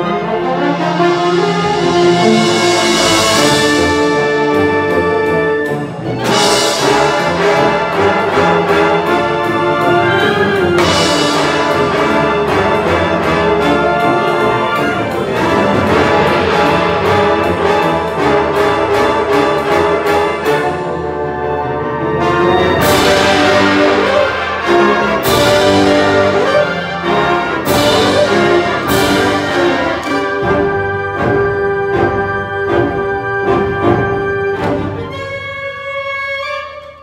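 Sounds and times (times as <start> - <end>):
concert band playing: 0.0 - 37.0.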